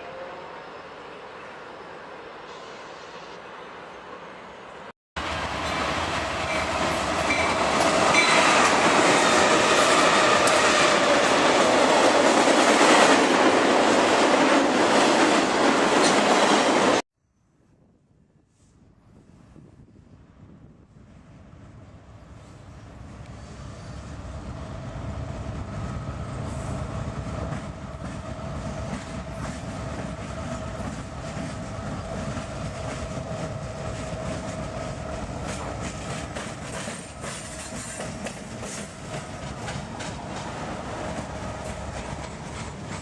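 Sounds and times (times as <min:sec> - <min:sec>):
train rumbling past: 0:00.0 - 0:17.0, 0:19.9 - 0:43.0.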